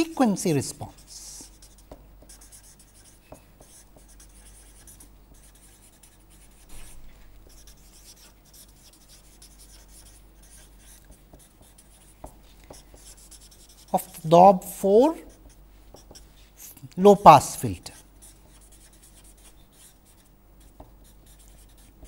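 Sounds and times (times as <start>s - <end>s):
marker scratching on paper: 0.0s - 22.0s.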